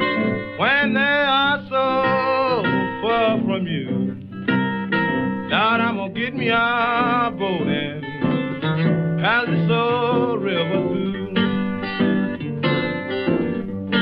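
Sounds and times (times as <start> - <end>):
acoustic blues guitar song: 0.0 - 14.0.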